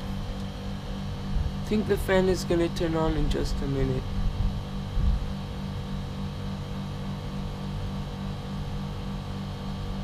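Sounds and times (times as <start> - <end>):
air conditioner compressor humming: 0.0 - 10.0.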